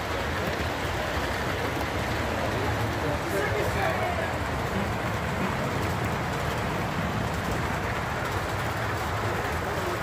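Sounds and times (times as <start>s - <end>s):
model trains rumbling: 0.0s - 10.0s.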